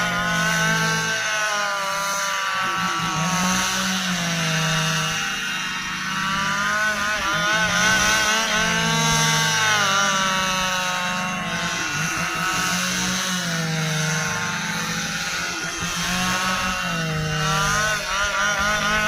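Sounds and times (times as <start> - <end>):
chainsaw cutting log: 0.0 - 19.0.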